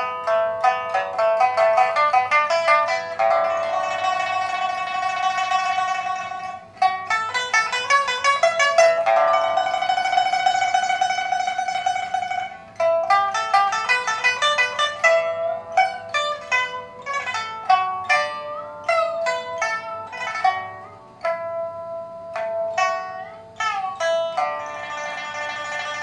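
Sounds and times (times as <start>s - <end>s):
pipa plucked notes: 0.0s - 26.0s.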